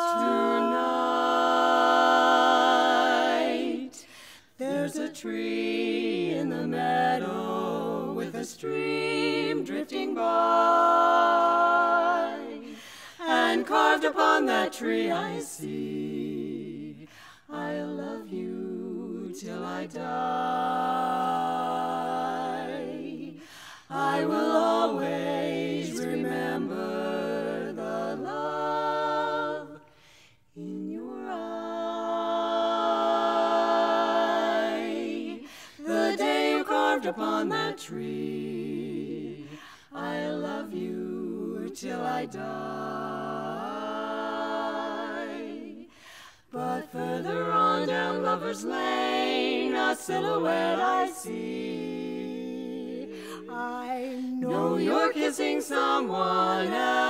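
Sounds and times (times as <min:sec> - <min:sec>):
women singing a cappella harmony: 0:00.0 - 0:57.0.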